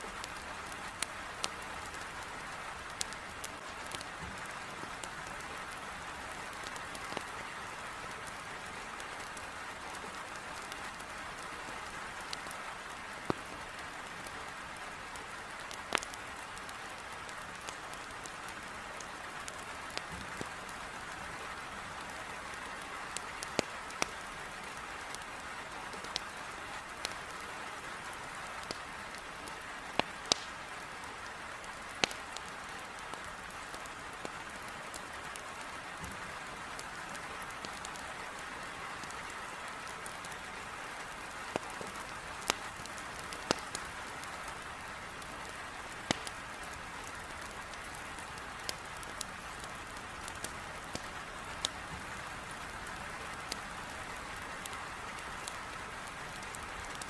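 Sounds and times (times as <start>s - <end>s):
heavy rain on a window: 0.0s - 57.0s
firewood crackling and popping: 0.1s - 57.0s.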